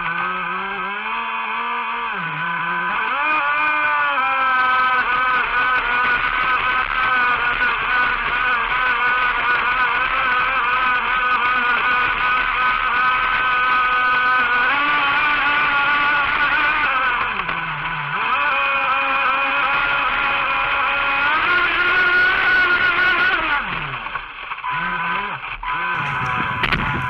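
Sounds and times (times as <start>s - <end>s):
electric boat motor whining: 0.0s - 27.0s.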